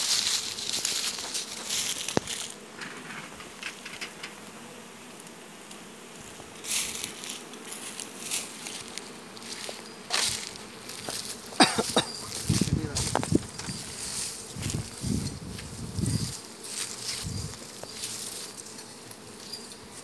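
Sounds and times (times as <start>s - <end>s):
rustling and crackling: 0.0s - 4.6s, 5.7s - 20.0s
honey bees buzzing: 0.0s - 20.0s.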